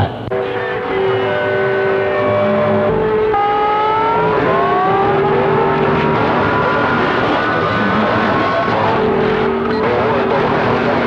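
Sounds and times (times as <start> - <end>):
steady low tone: 0.0 - 11.0.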